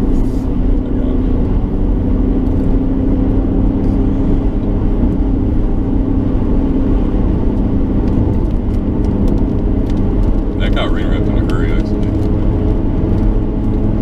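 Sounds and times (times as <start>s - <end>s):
car engine and road noise rumble: 0.0s - 14.0s.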